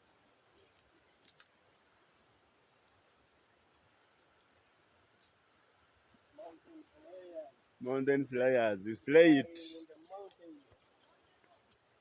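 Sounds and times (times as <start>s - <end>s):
faint ticks: 0.0s - 7.7s, 9.6s - 12.0s
high-pitched insect trill: 0.0s - 12.0s.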